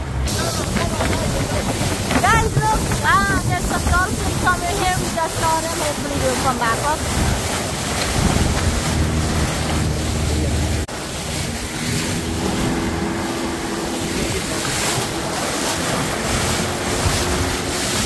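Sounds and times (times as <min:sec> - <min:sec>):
outboard motor droning: 0:00.0 - 0:18.0
water splashing off boat hull: 0:00.0 - 0:18.0
wind buffeting microphone: 0:00.2 - 0:18.0.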